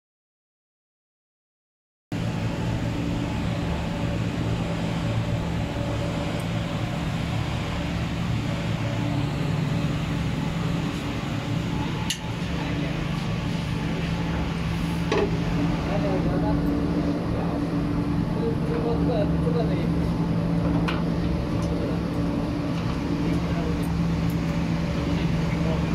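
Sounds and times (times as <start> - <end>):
workshop machinery humming: 2.1 - 25.9.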